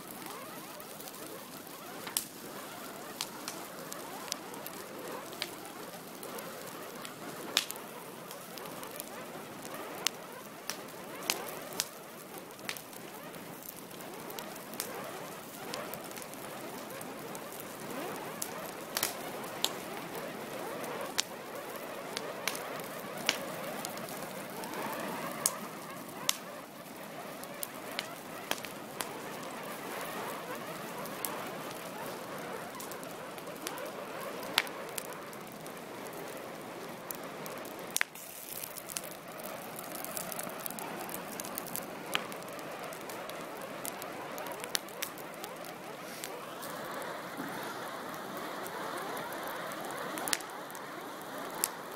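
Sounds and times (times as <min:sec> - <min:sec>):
fire burning: 0:00.0 - 0:51.9
fire crackling and popping: 0:00.0 - 0:51.9.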